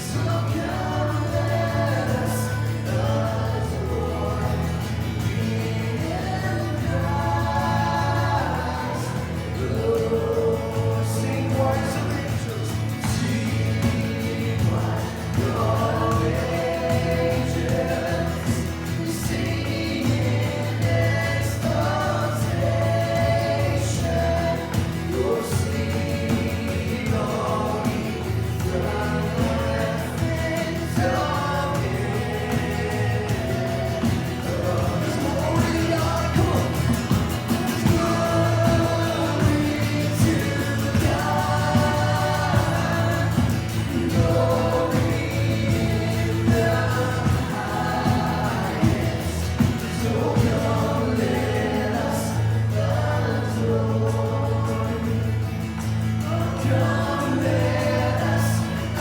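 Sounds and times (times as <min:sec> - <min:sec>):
group of voices singing: 0:00.0 - 0:59.0
instrumental accompaniment with bass: 0:00.0 - 0:59.0.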